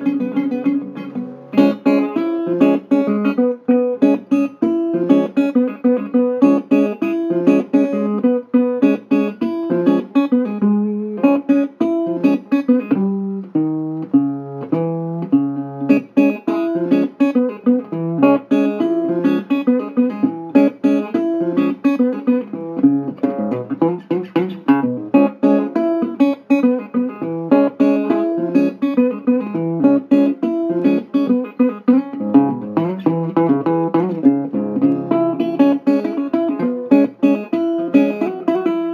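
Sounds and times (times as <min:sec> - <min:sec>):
acoustic guitar music: 0:00.0 - 0:38.9.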